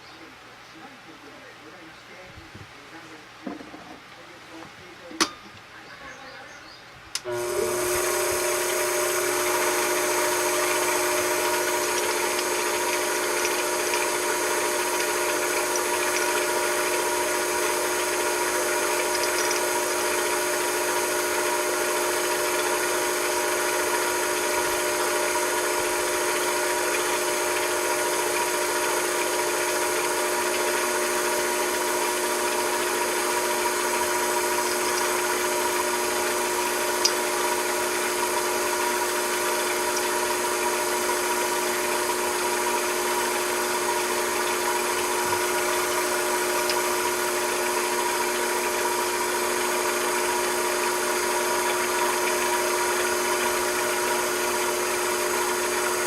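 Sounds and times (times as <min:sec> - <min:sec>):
machine tool whining: 0:07.2 - 0:56.0.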